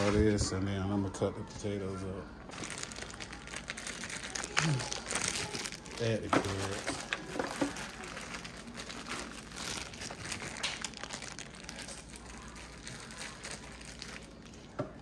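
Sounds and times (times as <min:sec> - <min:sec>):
carrots rustling in foil pan: 0:02.5 - 0:14.7.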